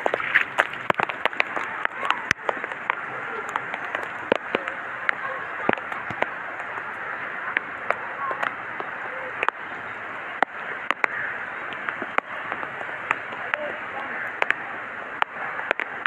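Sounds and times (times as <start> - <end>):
heavy rain falling: 0.0 - 16.0
raindrops clicking on plastic cover: 0.0 - 16.0.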